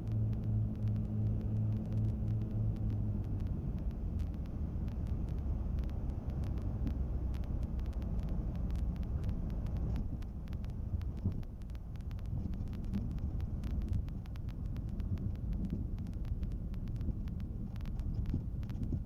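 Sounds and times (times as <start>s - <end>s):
low rumble: 0.0s - 19.0s
scattered clicks and knocks: 0.0s - 19.0s.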